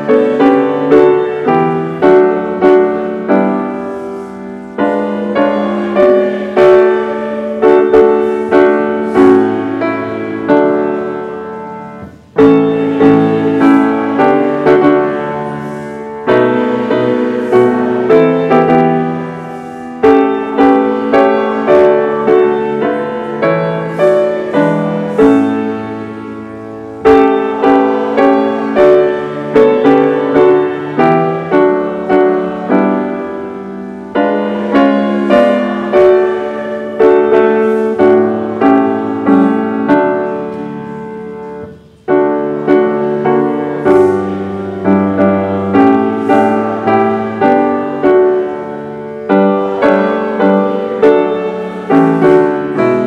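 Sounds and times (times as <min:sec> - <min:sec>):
slow piano chords: 0:00.0 - 0:53.0.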